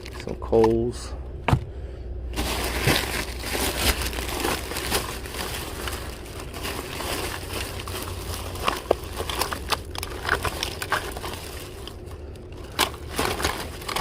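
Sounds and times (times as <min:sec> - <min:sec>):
plastic packaging crinkling: 0:00.0 - 0:00.8, 0:02.3 - 0:14.0.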